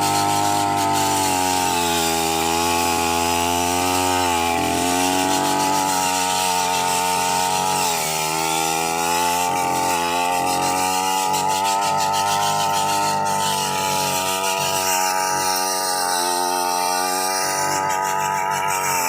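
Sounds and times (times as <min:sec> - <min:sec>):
brush cutter engine running: 0:00.0 - 0:19.0.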